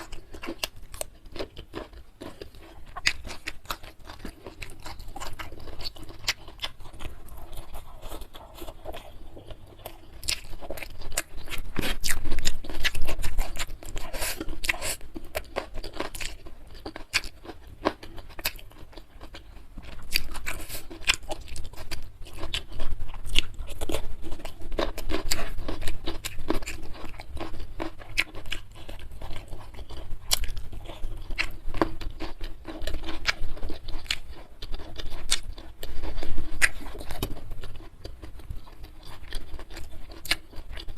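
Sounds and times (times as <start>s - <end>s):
person chewing and crunching food: 0.0s - 40.9s.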